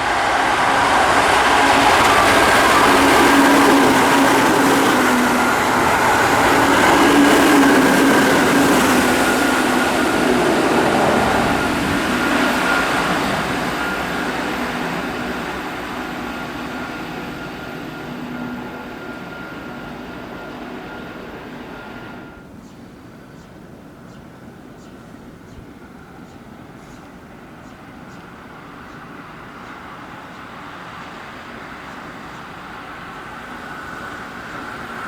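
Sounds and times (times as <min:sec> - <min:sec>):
electric train passing: 0:00.0 - 0:23.8, 0:24.4 - 0:35.0.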